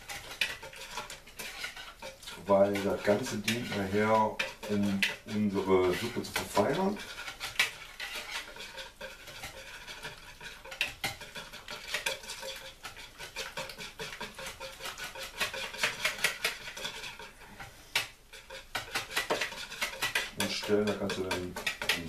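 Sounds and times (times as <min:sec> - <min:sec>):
hand whisk beating in plastic bowl: 0:00.0 - 0:22.0.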